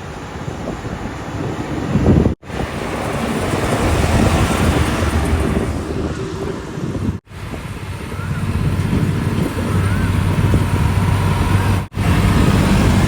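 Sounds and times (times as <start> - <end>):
diesel machinery engine running: 0.0 - 13.0.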